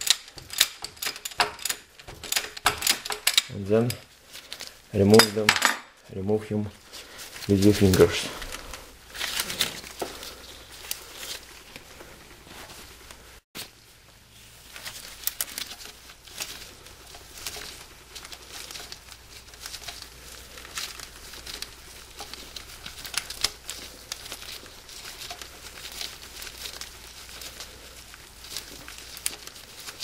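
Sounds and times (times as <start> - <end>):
hand rustling among hoses: 0.0 - 30.0.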